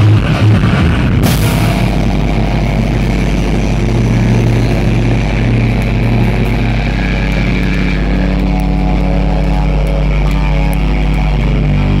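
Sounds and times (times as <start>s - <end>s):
heavy rock band playing: 0.0s - 12.0s.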